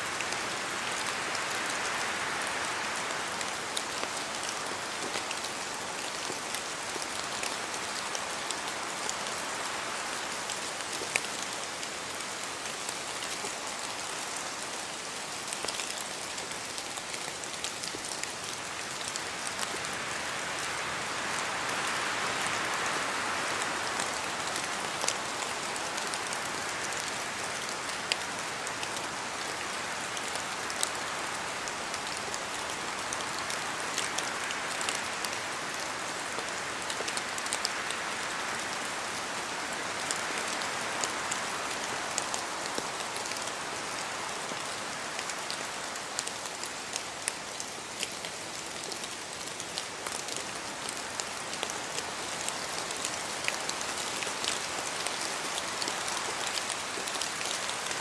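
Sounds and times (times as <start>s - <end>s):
rain falling through trees: 0.0s - 58.0s.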